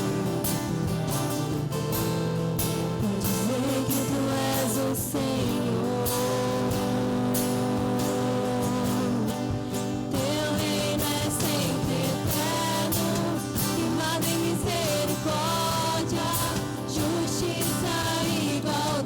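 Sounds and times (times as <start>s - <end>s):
guitar: 0.0s - 19.0s
percussion strokes: 0.0s - 19.0s.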